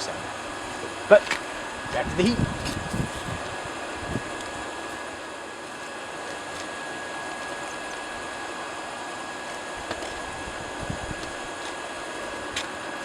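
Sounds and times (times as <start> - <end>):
air blower running: 0.0 - 13.0
faint steady whine: 0.0 - 13.0.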